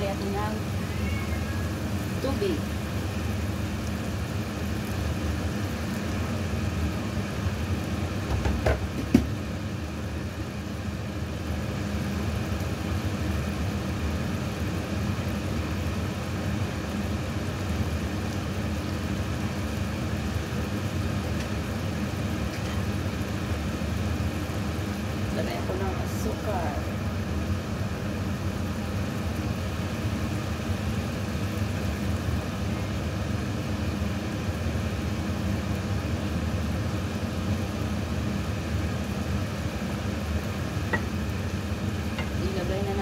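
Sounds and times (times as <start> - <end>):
low mechanical hum with whir: 0.0 - 43.0.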